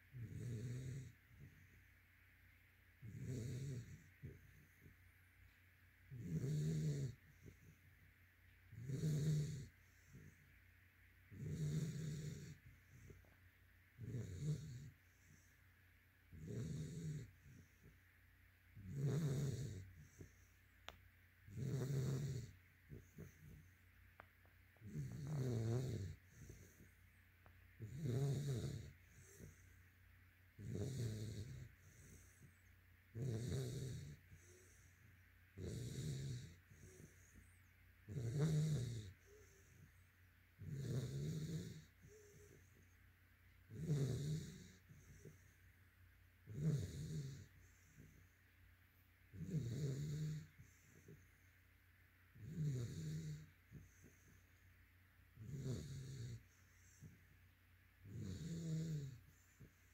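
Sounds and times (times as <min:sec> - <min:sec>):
puppy snoring: 0:00.0 - 0:02.0, 0:02.8 - 0:45.7, 0:46.3 - 0:48.5, 0:49.2 - 0:51.6, 0:52.3 - 0:59.9
soft breaths: 0:00.0 - 0:59.9.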